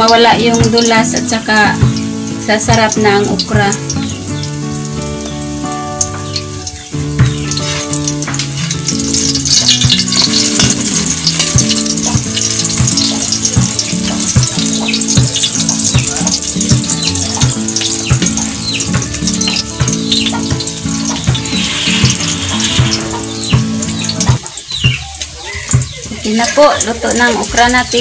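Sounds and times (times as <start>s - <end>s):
okra sizzling in hot oil: 0.0s - 28.0s.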